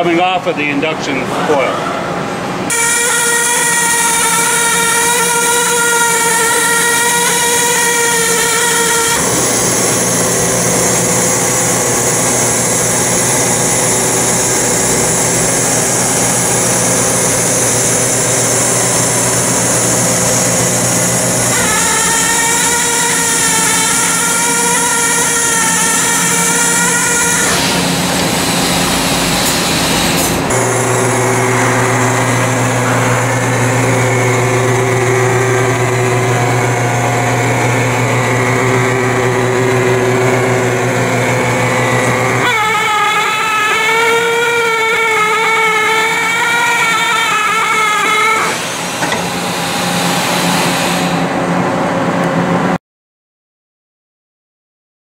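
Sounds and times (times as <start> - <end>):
machinery humming with whining tones: 0.0 - 52.8
wavering higher whine: 1.6 - 52.8.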